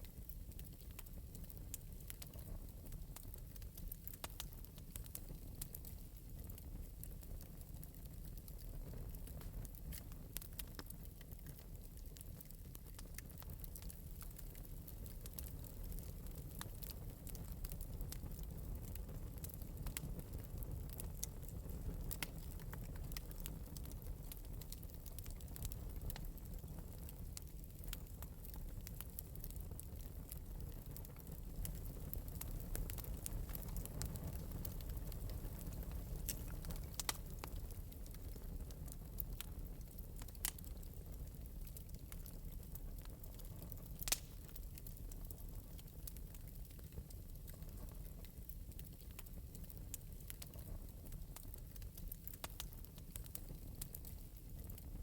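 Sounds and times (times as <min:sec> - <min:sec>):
fire crackles and pops: 0:00.0 - 0:55.0
wood fire rumbling: 0:00.0 - 0:55.0.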